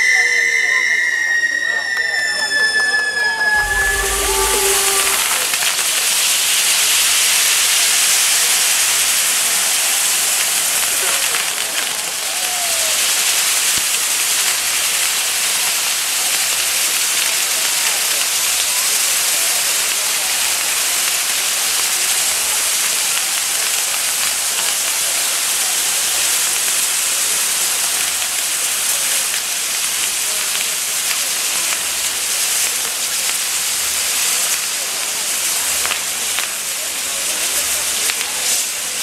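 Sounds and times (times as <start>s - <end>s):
firework wheel rushing hiss: 0.0s - 16.8s, 20.7s - 39.0s.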